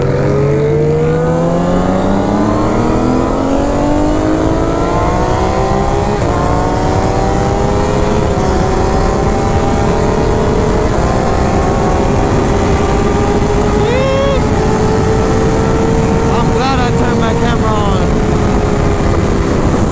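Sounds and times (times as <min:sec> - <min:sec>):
motorcycle engine accelerating: 0:00.0 - 0:19.9.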